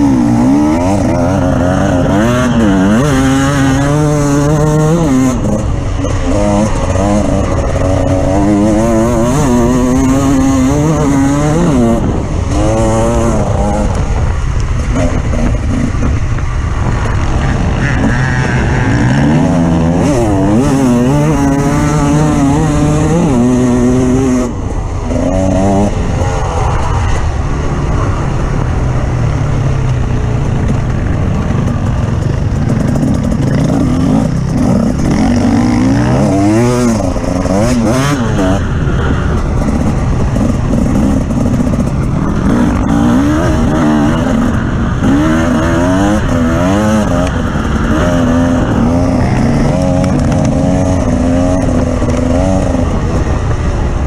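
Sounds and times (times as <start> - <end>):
off-road vehicle engine revving: 0.0 - 27.2, 30.1 - 54.0
constant rushing noise: 0.0 - 54.0.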